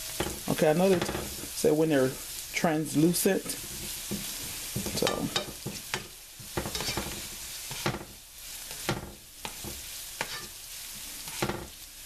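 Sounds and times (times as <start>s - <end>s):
onions sizzling in a pan: 0.0s - 12.0s
spatula scraping and tapping pan: 0.1s - 1.5s, 3.4s - 11.8s.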